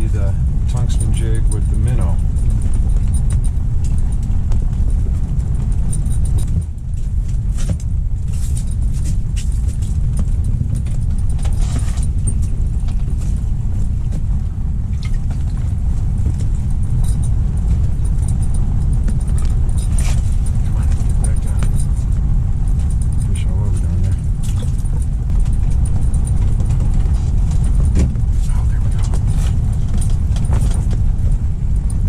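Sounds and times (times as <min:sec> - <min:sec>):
light clicks and rattles: 0:00.0 - 0:32.0
wind buffeting microphone: 0:00.0 - 0:32.0.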